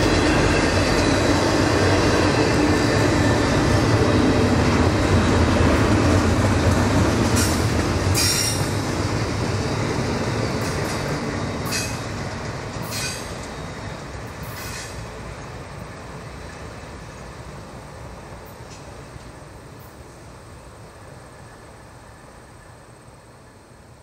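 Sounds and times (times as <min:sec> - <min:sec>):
train cars rolling rumble: 0:00.0 - 0:24.0.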